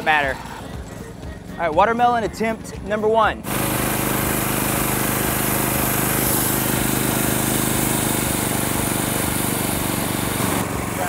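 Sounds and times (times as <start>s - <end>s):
small gasoline engine running: 0.0s - 11.0s.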